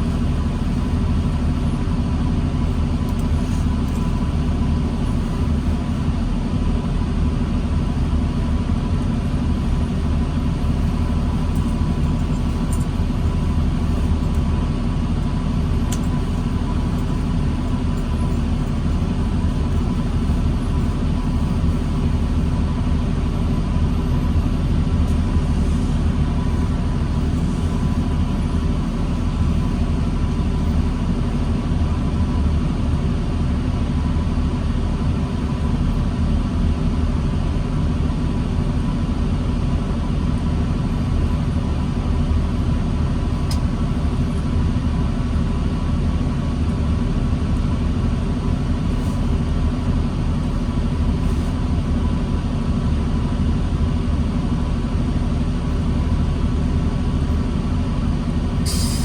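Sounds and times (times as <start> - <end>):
diesel bus engine rumbling: 0.0 - 59.0.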